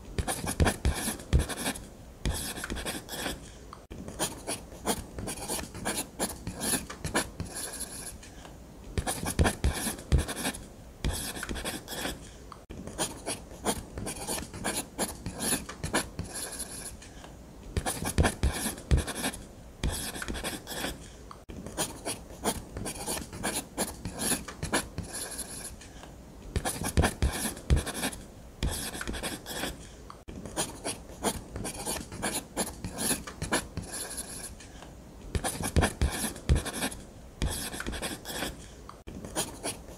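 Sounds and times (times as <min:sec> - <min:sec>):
ballpoint pen scratching on paper: 0:00.2 - 0:03.5, 0:04.1 - 0:08.2, 0:09.0 - 0:12.3, 0:12.9 - 0:17.0, 0:17.8 - 0:25.8, 0:26.6 - 0:34.6, 0:35.4 - 0:39.9.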